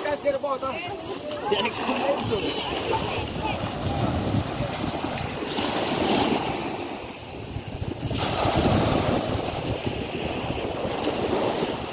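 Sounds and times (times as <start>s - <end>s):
waves washing onto beach: 0.0s - 11.9s
wind rumbling on microphone: 0.0s - 11.9s.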